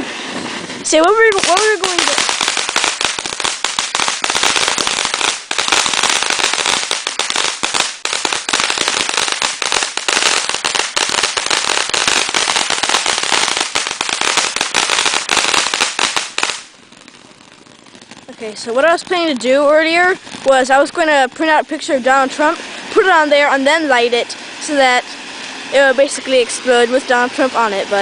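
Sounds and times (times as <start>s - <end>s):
sparkler firework crackling: 0.0s - 28.0s.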